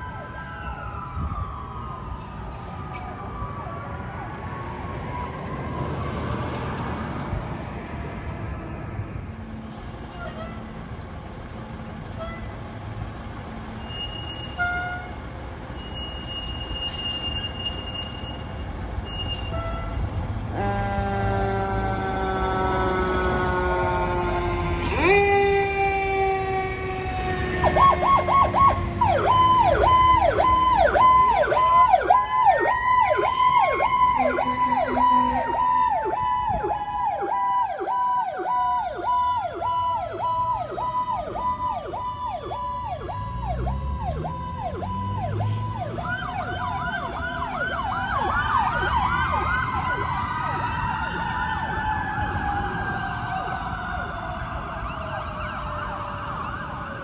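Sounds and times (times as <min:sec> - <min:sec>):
emergency sirens: 0:00.0 - 0:57.0.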